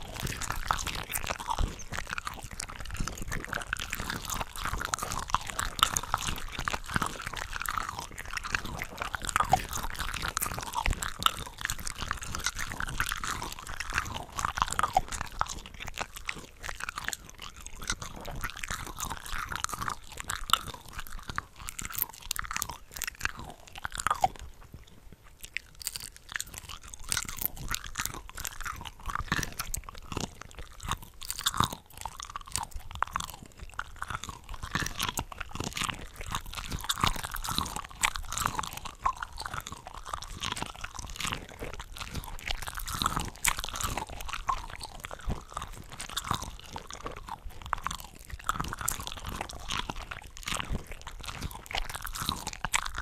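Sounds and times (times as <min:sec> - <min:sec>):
person chewing shrimp: 0:00.0 - 0:53.0.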